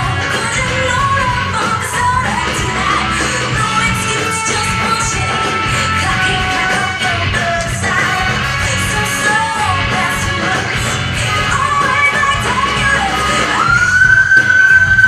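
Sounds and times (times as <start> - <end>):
song with vocals and band: 0.0 - 15.0.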